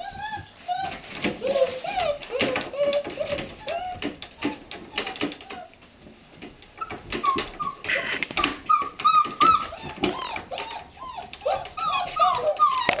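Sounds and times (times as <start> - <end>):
puppies whining: 0.0 - 5.8, 6.4 - 13.0.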